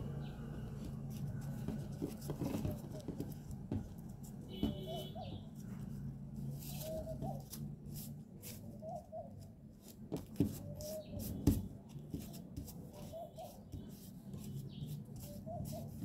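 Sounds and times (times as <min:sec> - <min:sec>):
fabric and paper rustling: 0:00.5 - 0:16.0.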